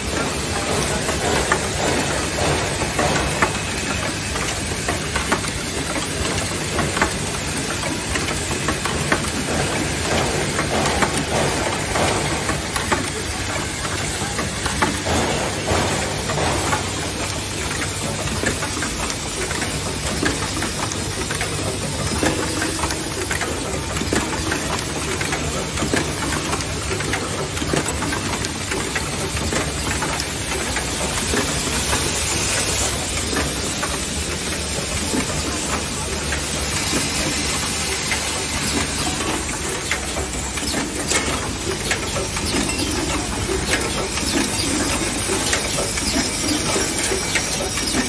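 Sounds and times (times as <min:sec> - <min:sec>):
machine mechanical hum: 0:00.0 - 0:48.0
pneumatic cylinders clacking: 0:00.0 - 0:48.0.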